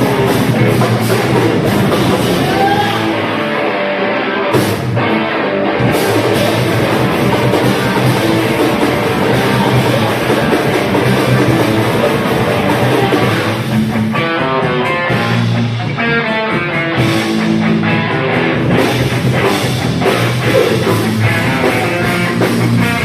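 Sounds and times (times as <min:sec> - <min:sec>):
metal band playing live: 0:00.0 - 0:23.0.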